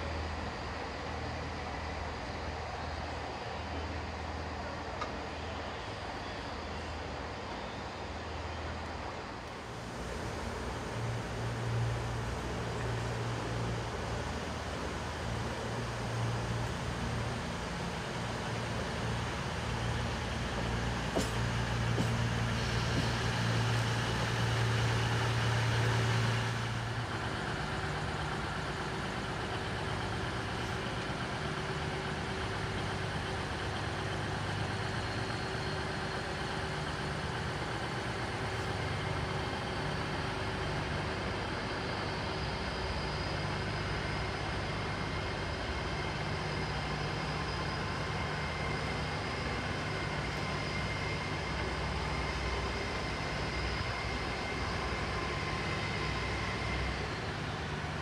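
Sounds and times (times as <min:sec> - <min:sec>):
diesel train engine idling: 0:00.0 - 0:58.0.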